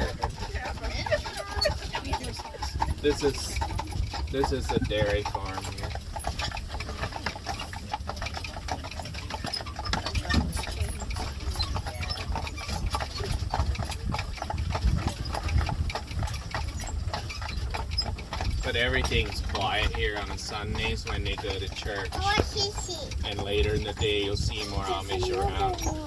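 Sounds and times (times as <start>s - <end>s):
buggy wheels rumbling: 0.0s - 26.0s
horse hooves clip-clopping: 0.0s - 26.0s.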